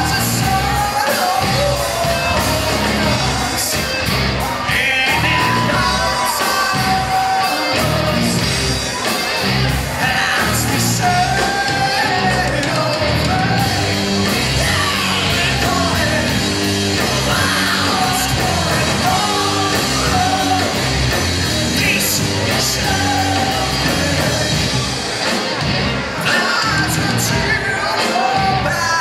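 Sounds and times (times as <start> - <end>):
live rock band playing: 0.0 - 29.0
person singing: 0.0 - 29.0.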